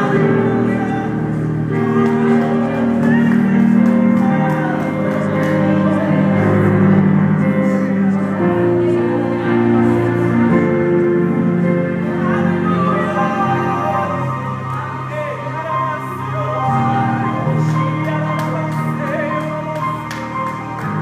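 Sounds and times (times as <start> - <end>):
person singing: 0.0 - 21.0
slow worship music chords: 0.0 - 21.0.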